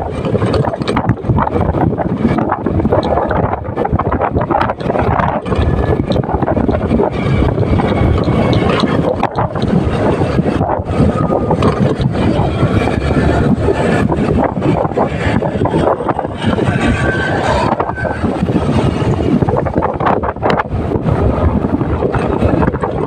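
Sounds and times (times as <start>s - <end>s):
motorcycle engine: 0.0s - 23.0s
road noise: 0.0s - 23.0s
wind buffeting microphone: 0.0s - 23.0s.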